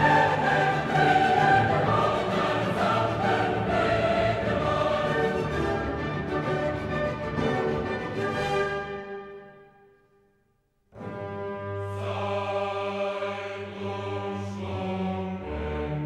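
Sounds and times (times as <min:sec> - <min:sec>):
choir-like music: 0:00.0 - 0:09.9, 0:11.0 - 0:16.0.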